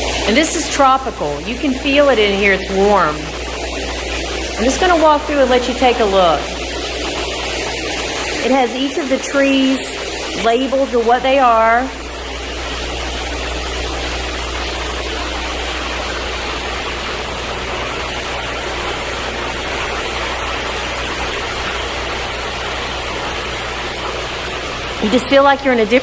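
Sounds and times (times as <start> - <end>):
low constant hum: 0.0 - 26.0
ventilation fan rushing: 0.0 - 26.0.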